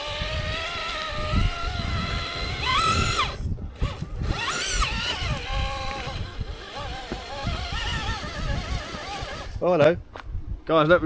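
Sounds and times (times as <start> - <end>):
rc car electric motor whining: 0.0 - 9.6.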